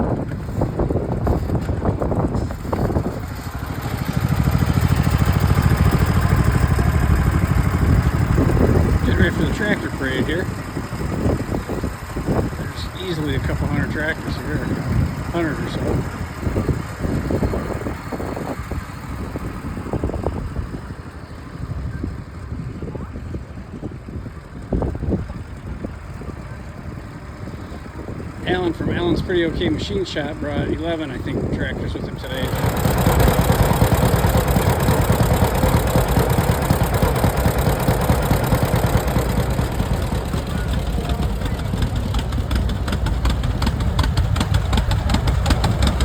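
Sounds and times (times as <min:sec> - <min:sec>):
tractor engines idling: 0:00.0 - 0:46.0.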